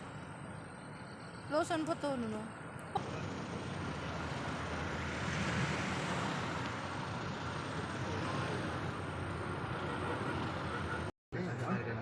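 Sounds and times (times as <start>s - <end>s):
vehicle road noise rumble: 0.0s - 12.0s.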